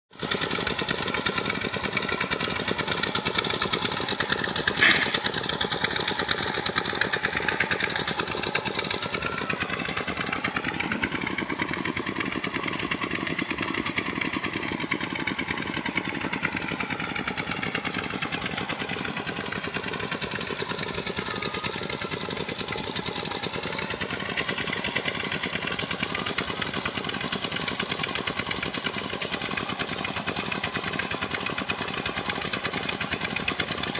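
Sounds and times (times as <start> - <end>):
pump engine chugging: 0.1 - 33.9.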